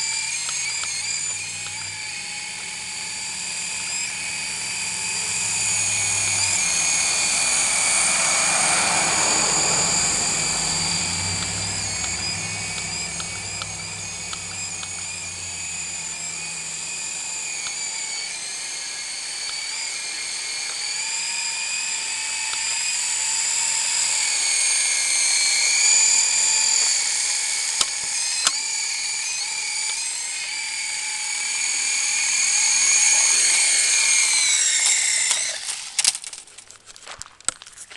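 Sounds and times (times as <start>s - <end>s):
toy helicopter rotors whining: 0.0s - 37.8s.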